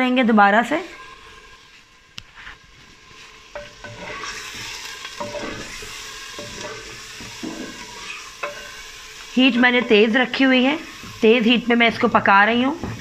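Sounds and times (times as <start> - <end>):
food sizzling in hot oil: 0.5 - 13.0
wooden spatula scraping pot: 0.9 - 13.0.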